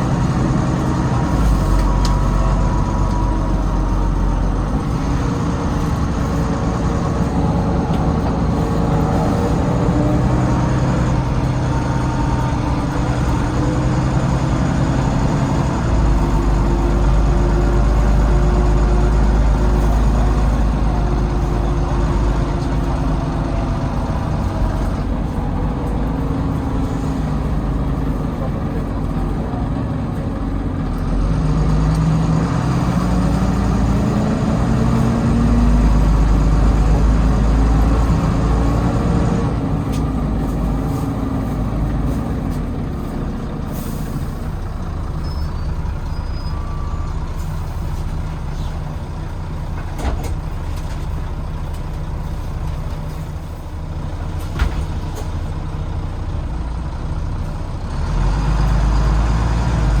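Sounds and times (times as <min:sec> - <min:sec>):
bus engine accelerating: 0:00.0 - 1:00.0.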